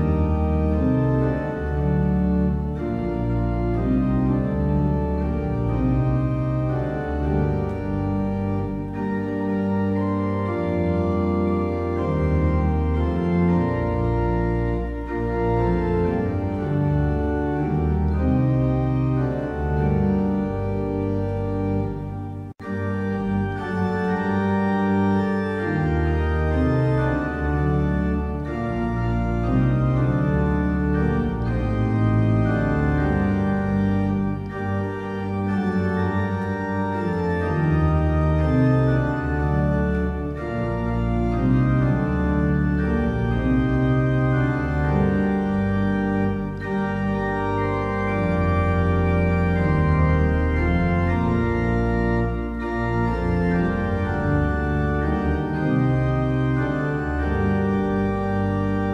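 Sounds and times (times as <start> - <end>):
organ playing a hymn: 0.0 - 58.9.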